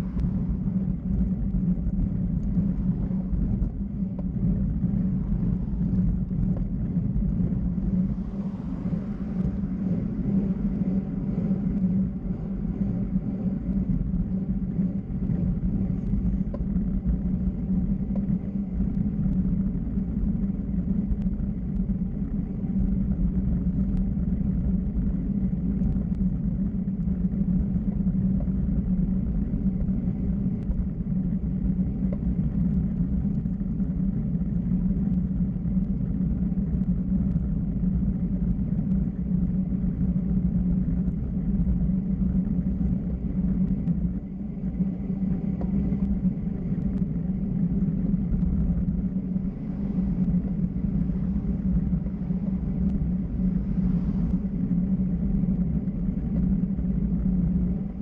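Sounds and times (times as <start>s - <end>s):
wind and road noise rumble: 0.0s - 58.0s.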